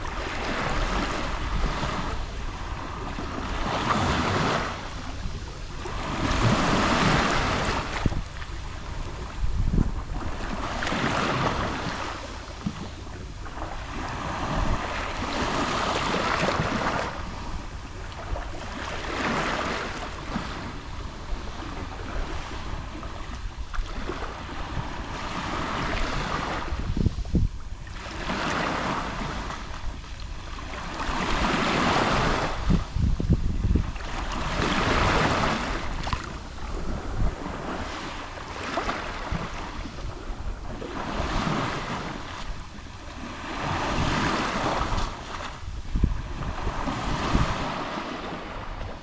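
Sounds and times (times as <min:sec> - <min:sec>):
waves lapping on shore: 0:00.0 - 0:49.0
wind rumble on microphone: 0:00.0 - 0:49.0.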